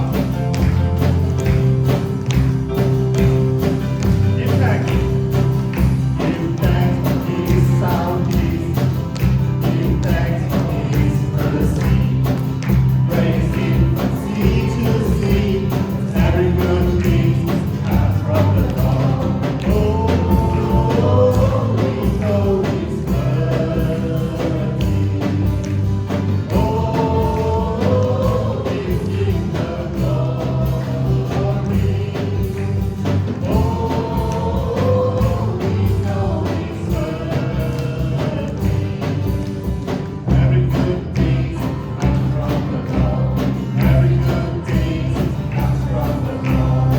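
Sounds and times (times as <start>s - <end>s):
group singing: 0.0s - 46.9s
worship band playing: 0.0s - 46.9s.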